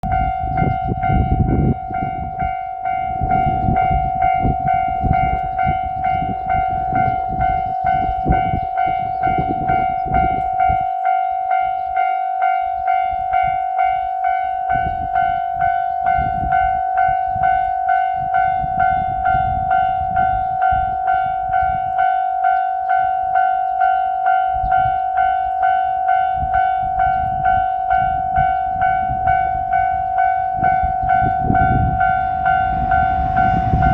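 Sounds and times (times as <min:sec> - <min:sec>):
electric train rumbling past: 0:00.0 - 0:33.9
level crossing alarm ringing: 0:00.0 - 0:33.9.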